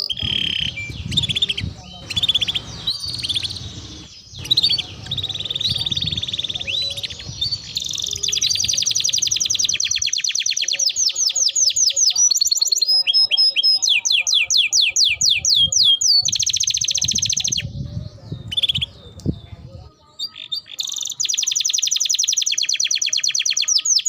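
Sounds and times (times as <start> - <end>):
canary singing trills: 0.0 - 24.0.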